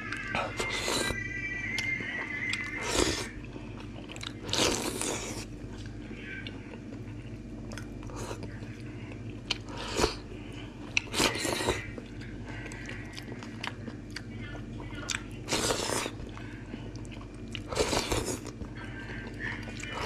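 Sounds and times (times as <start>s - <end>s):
chewing: 1.8s - 20.0s.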